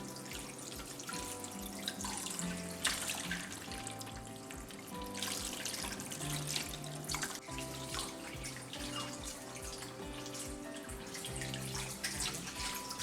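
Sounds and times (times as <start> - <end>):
soft background music: 0.0 - 13.0
water splashing in sink: 0.0 - 13.0.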